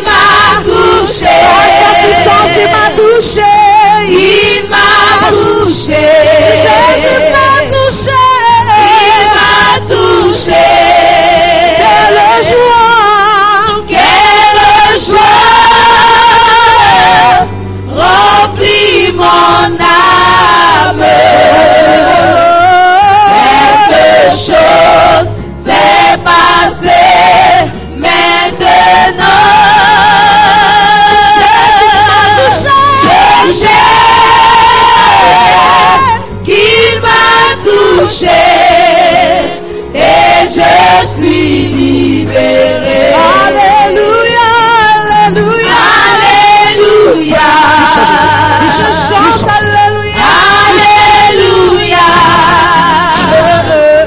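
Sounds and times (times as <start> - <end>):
choir singing gospel song: 0.0 - 54.0.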